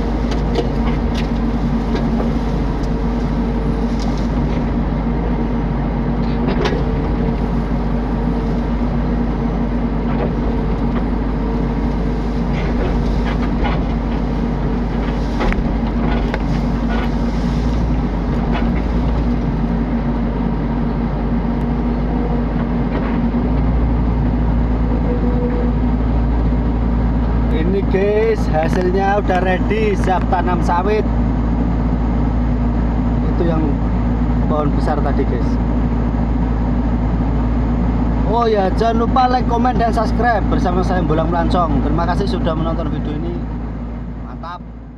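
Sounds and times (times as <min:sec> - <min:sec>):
excavator diesel engine humming: 0:00.0 - 0:44.9.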